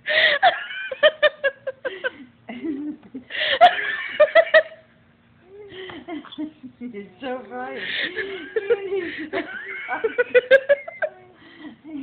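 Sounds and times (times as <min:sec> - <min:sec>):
woman laughing: 0:00.1 - 0:04.9, 0:05.6 - 0:07.1, 0:07.7 - 0:12.0.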